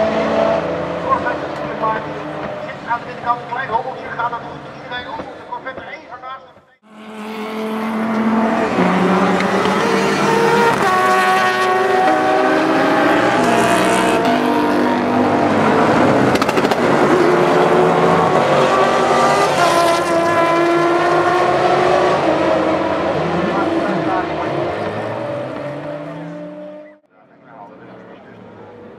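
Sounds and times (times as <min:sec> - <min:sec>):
race car engines revving: 0:00.0 - 0:06.2, 0:06.8 - 0:28.9.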